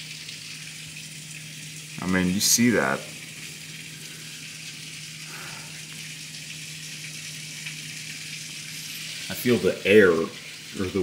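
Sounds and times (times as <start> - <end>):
heavy rain splashing on patio: 0.0 - 11.0.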